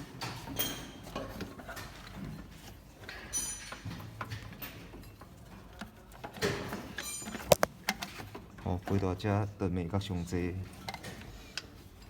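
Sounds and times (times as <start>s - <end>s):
faint handling clicks and knocks: 0.0s - 9.2s, 10.6s - 12.0s.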